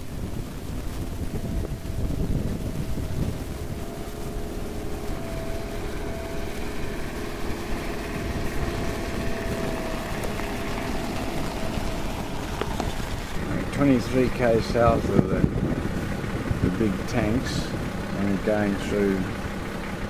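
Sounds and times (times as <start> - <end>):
vehicle engine running: 0.0 - 20.0
wind rumbling on microphone: 0.0 - 20.0.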